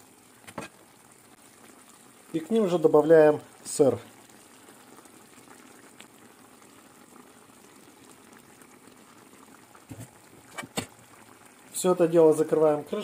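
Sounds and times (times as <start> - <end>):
sauce bubbling in a pan: 0.0 - 13.0.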